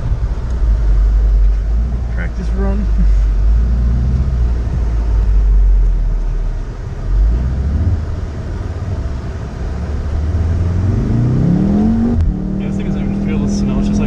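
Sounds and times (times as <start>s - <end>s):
car engine from inside cabin: 0.0s - 14.0s
low road rumble: 0.0s - 14.0s.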